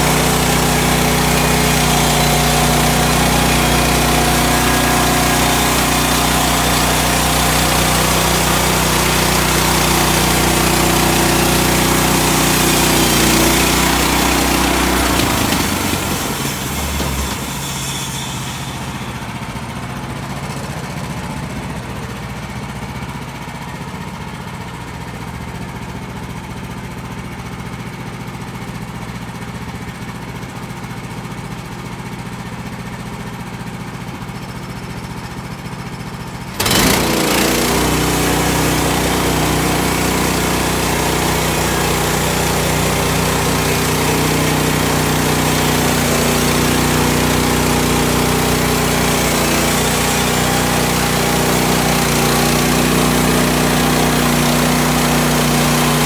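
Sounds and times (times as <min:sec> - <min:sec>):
sawmill gas engine running: 0:00.0 - 0:56.0.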